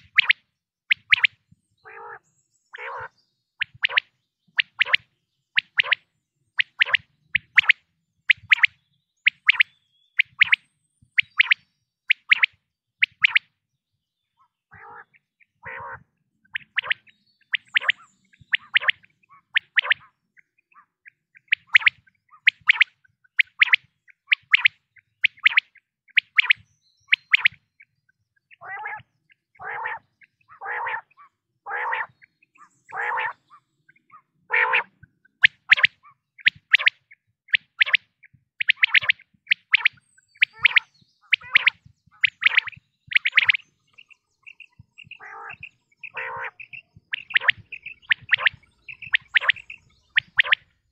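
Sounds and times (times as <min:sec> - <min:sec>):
lower rough quail calls: 0:00.0 - 0:06.0, 0:14.4 - 0:50.9
quail chirping: 0:00.0 - 0:06.0, 0:06.6 - 0:10.6, 0:11.2 - 0:13.5, 0:14.4 - 0:50.9.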